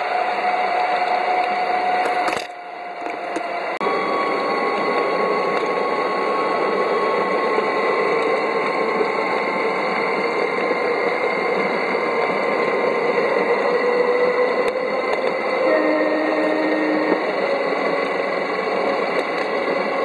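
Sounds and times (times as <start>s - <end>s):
electric motor whine: 0.0s - 20.0s
wheels rolling on rails: 0.0s - 20.0s.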